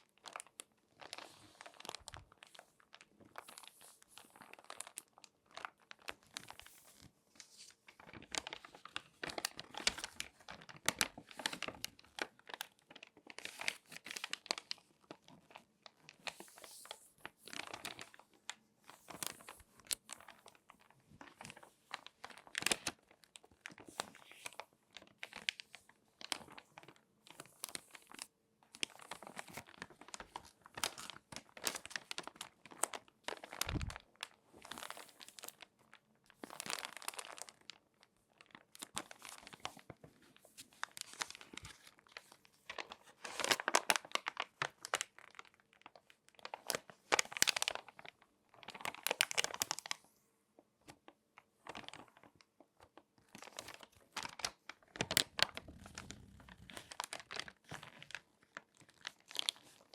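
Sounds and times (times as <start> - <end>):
magazine pages crinkling: 0.1 - 50.0, 51.6 - 59.9.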